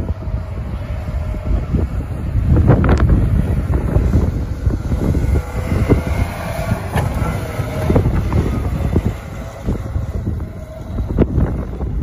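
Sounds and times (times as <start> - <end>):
diesel truck engine running: 0.0 - 12.0
low rumble of snowplows: 0.0 - 12.0
wind buffeting microphone: 0.0 - 12.0.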